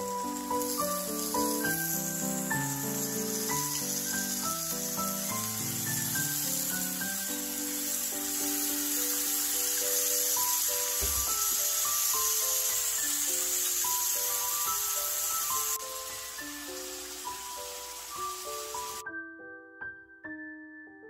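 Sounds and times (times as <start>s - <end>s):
sauce sizzling in a hot pan: 0.0s - 19.0s
background music melody: 0.0s - 21.0s.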